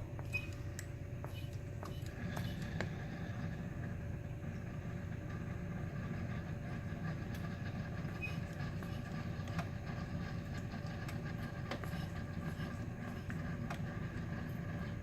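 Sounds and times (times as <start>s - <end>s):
coffee maker rumbling hum: 0.0s - 15.0s.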